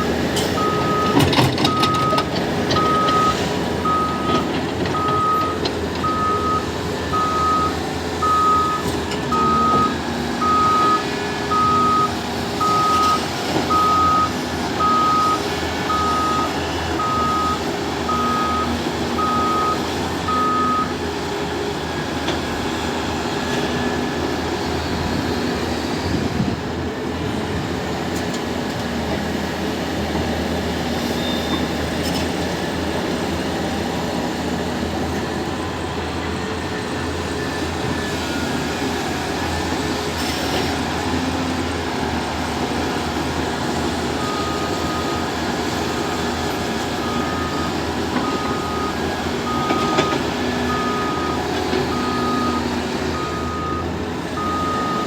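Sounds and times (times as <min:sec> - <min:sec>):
diesel engine running: 0:00.0 - 0:31.1, 0:31.7 - 0:55.0
truck reversing alarm beeping: 0:00.1 - 0:25.2, 0:30.2 - 0:55.0.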